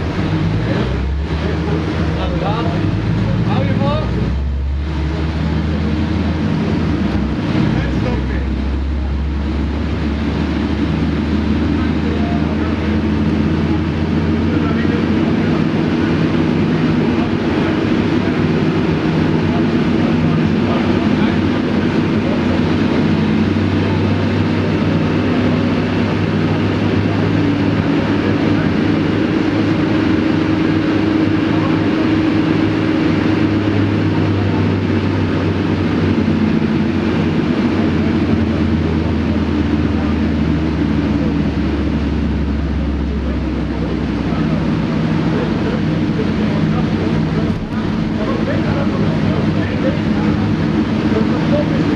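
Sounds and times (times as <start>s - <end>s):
car engine on dyno: 0.0s - 51.9s.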